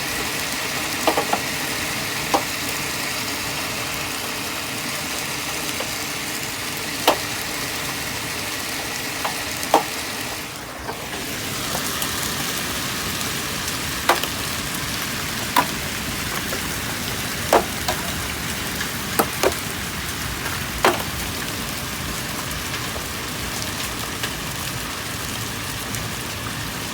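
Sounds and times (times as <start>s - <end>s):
hail and rain hissing: 0.0s - 26.9s
hailstones cracking on hard surface: 0.0s - 26.9s.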